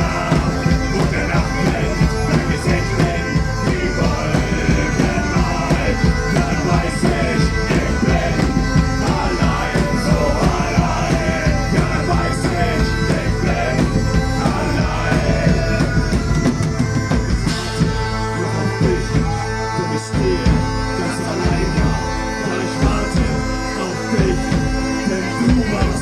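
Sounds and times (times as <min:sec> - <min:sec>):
drums: 0:00.0 - 0:26.0
rock band playing live: 0:00.0 - 0:26.0.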